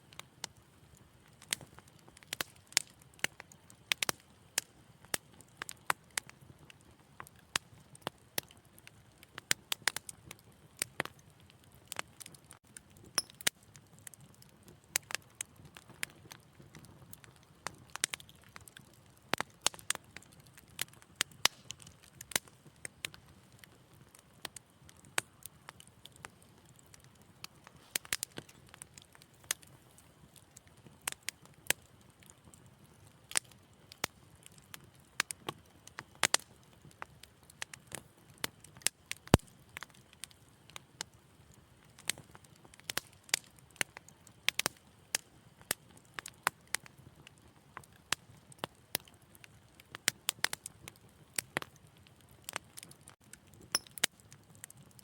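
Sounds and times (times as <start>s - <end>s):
low hiss of burning: 0.0s - 55.0s
wood fire crackling: 0.0s - 55.0s.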